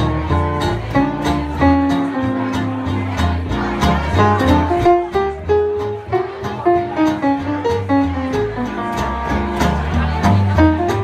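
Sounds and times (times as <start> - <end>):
acoustic guitar strumming: 0.0 - 11.0
moving bass line: 0.0 - 11.0.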